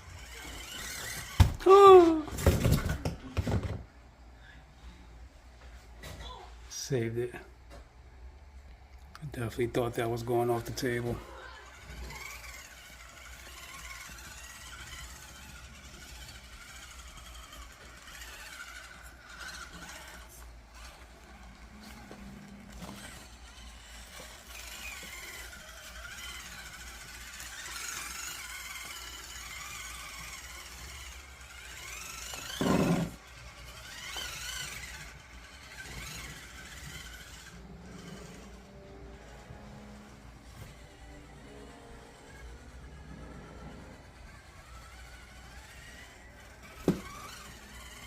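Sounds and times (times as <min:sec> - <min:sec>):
electric drivetrain whining: 0:00.0 - 0:48.0.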